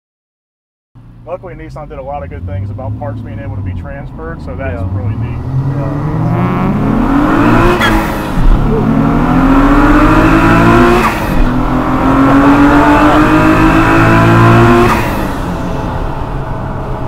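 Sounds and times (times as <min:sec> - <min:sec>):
car engine accelerating hard: 0:01.4 - 0:17.0.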